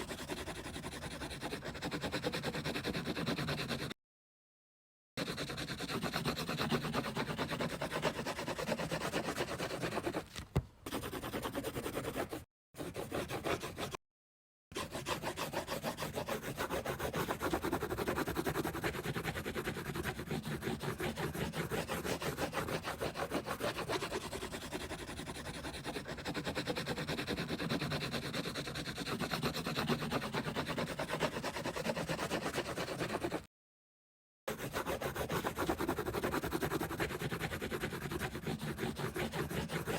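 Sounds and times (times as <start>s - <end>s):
coloring tool scribbling on paper: 0.0s - 4.0s, 5.2s - 10.3s, 10.9s - 14.0s, 14.7s - 33.5s, 34.5s - 39.9s.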